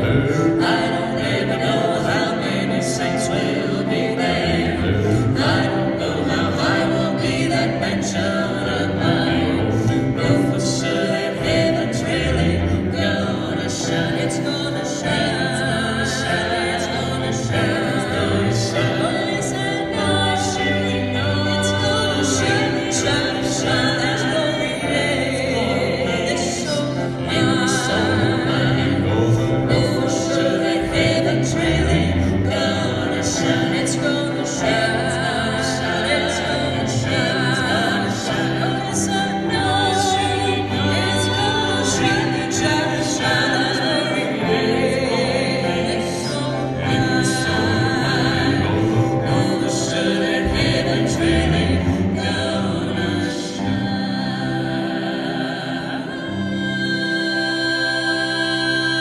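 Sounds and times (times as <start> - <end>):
electric guitar: 0.0 - 59.0
gospel group singing in harmony: 0.0 - 59.0.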